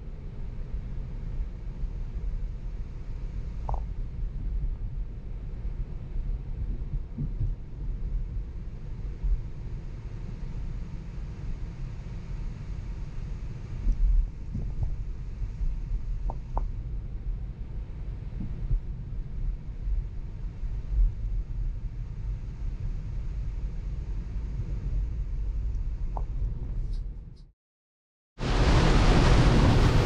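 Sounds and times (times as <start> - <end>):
road and tyre rumble in car: 0.0 - 27.5.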